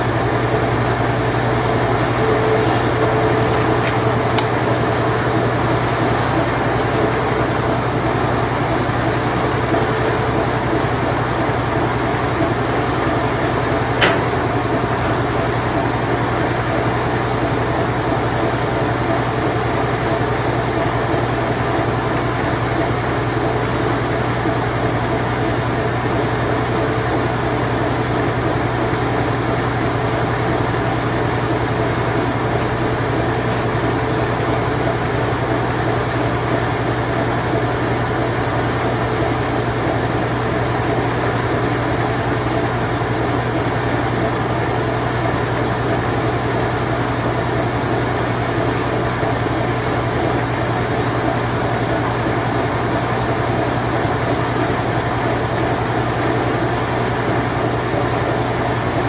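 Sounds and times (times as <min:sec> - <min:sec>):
washing machine spin cycle: 0:00.0 - 0:59.0.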